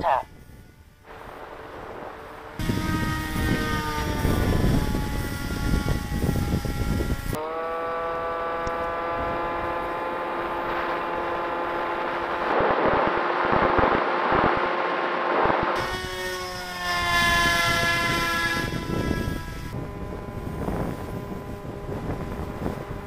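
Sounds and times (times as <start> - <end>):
wind noise: 0.0 - 7.4, 8.4 - 23.0
electric motor and propeller whining: 0.0 - 23.0.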